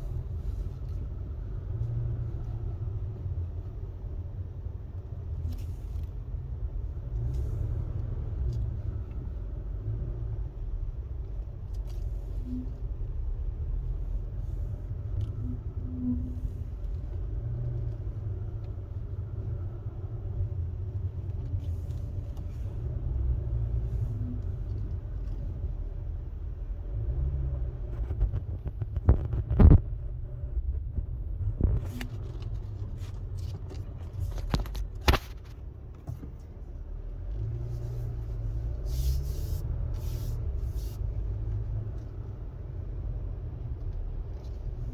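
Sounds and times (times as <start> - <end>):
road rumble inside moving car: 0.0 - 44.9.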